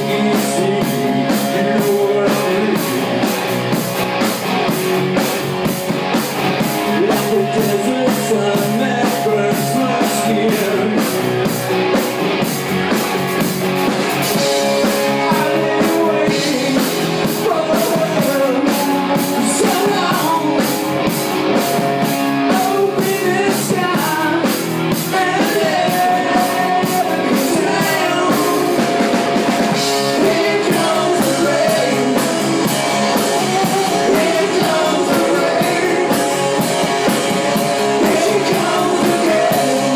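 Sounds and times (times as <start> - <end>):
man singing lead: 0.0 - 3.6, 6.7 - 11.6, 14.3 - 39.9
drum kit with cymbal beat: 0.0 - 39.9
electric bass: 0.0 - 39.9
electric guitar: 0.0 - 39.9.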